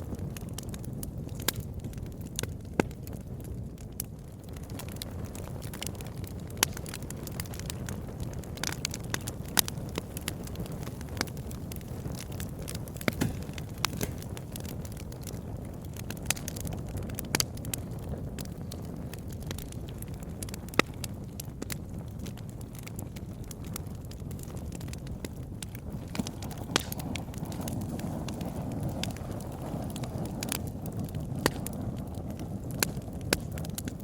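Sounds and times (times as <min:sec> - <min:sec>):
low fire rumble: 0:00.0 - 0:34.0
wood crackling and popping: 0:00.0 - 0:34.0.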